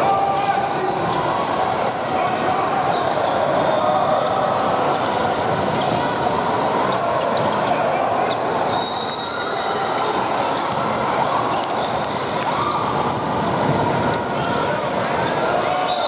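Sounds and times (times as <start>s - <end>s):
din of many voices: 0.0s - 16.0s.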